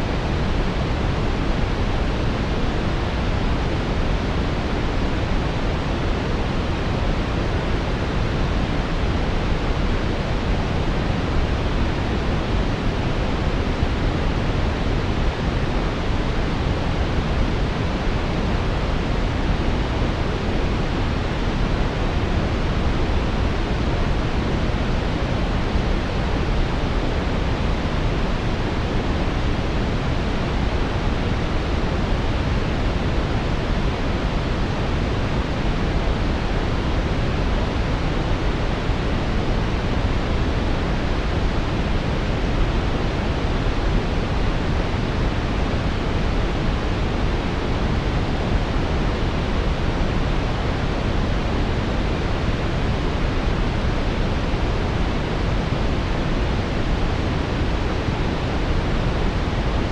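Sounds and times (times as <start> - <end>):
brown noise hiss: 0.0 - 59.9.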